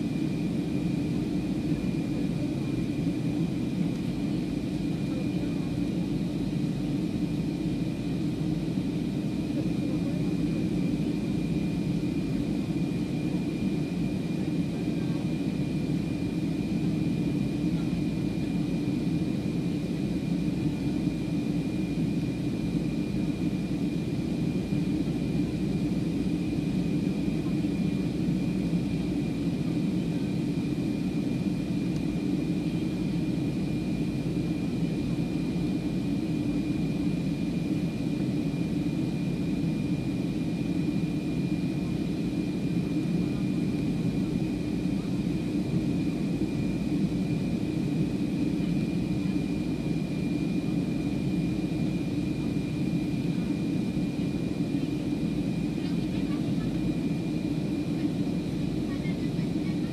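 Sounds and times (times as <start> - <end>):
jet engines and airflow rushing: 0.0 - 59.9.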